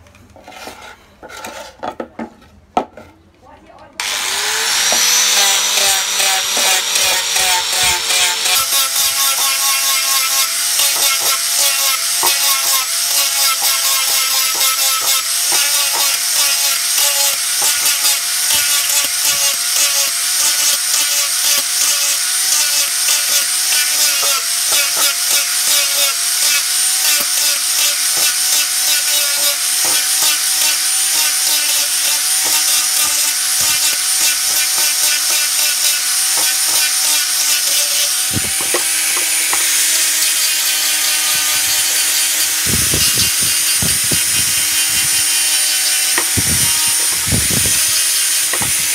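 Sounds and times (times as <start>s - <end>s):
angle grinder motor whine: 4.0s - 48.9s.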